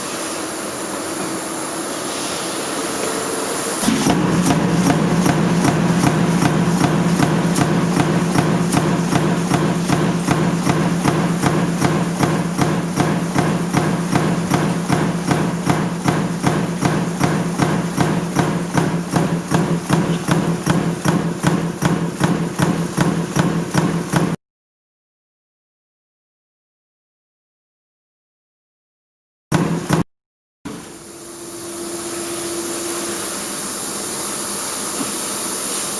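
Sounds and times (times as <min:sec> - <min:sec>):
stamping press machine hum: 0:00.0 - 0:24.4, 0:29.5 - 0:30.1, 0:30.7 - 0:35.9.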